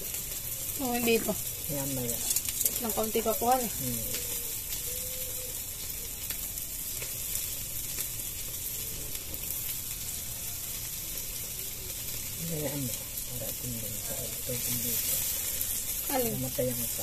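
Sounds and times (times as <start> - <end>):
chicken sizzling on a grill: 0.0 - 17.0.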